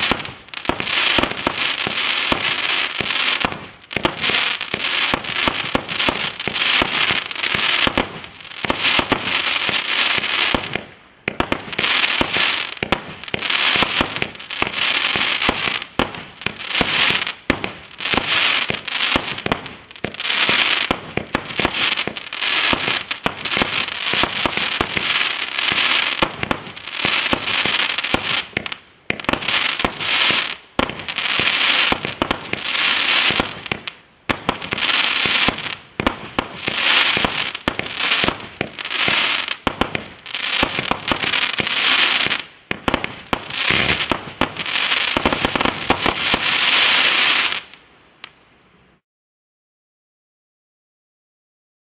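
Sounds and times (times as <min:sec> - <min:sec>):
firework cake crackling bursts: 0:00.0 - 0:48.4.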